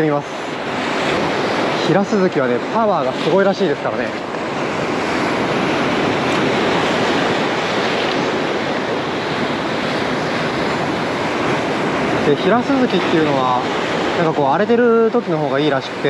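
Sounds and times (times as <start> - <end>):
sea surf breaking on rocks: 0.0 - 16.0.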